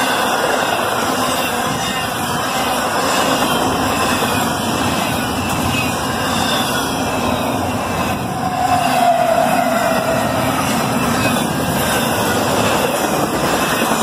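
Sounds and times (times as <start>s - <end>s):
diesel locomotive whine: 0.0s - 14.0s
steel wheels on rails: 0.0s - 14.0s.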